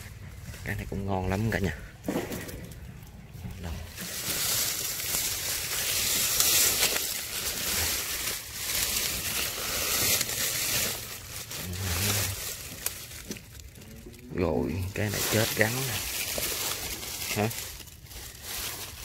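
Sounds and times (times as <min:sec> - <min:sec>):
leaves and branches rustling: 0:00.0 - 0:19.0.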